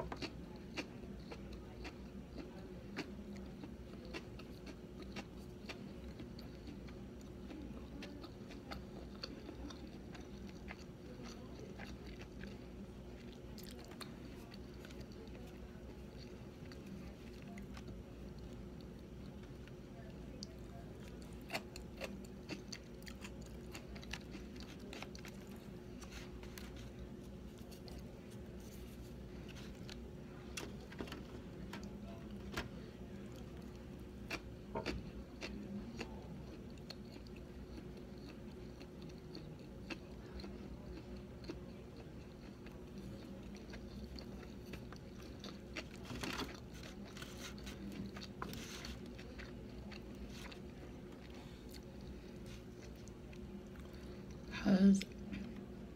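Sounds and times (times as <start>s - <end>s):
person chewing food: 0.0s - 54.5s
background hum: 0.0s - 55.9s.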